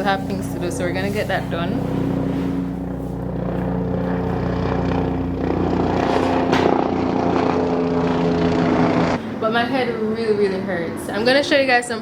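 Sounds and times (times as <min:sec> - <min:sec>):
construction machinery engine drone: 0:00.0 - 0:11.7.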